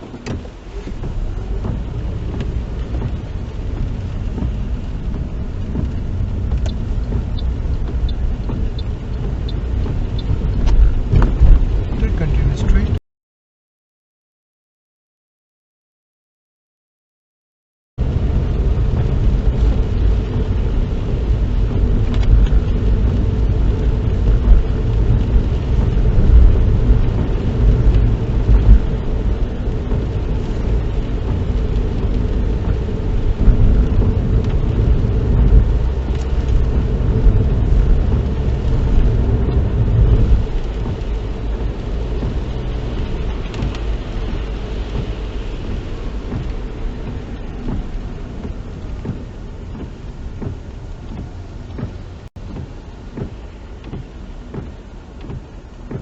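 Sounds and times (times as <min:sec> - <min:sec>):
car interior road and engine rumble: 0:00.0 - 0:13.0, 0:18.0 - 0:56.0.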